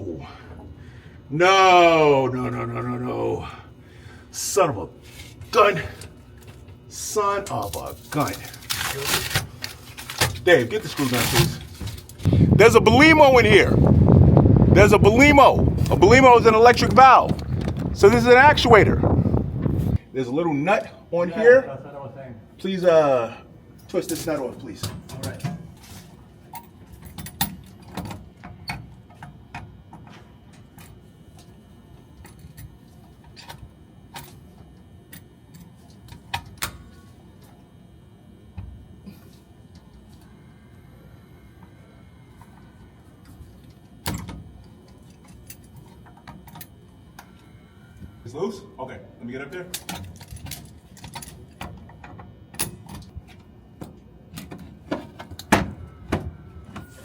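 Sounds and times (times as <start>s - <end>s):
hvac equipment hum: 0.0s - 57.0s.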